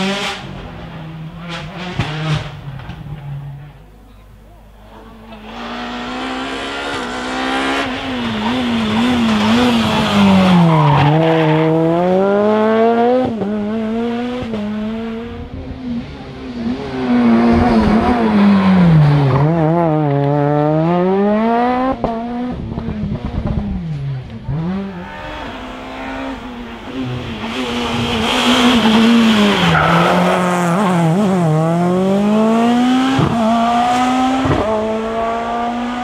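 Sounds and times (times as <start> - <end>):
rally car engine revving: 0.0 - 3.8, 4.9 - 36.0.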